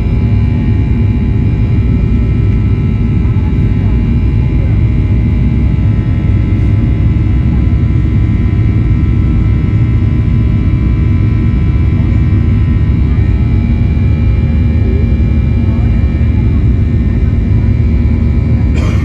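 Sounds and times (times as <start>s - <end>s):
jet engines heard from cabin: 0.0s - 19.0s.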